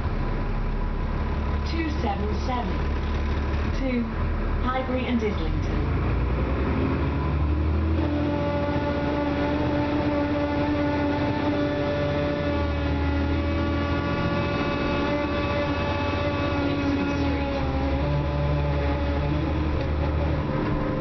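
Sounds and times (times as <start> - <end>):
bus engine low rumble: 0.0 - 21.0
multi-tone drivetrain whine: 0.0 - 21.0.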